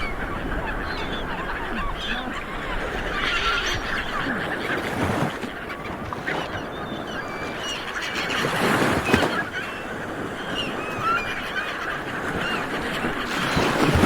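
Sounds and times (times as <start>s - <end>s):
seabirds calling: 0.0s - 14.0s.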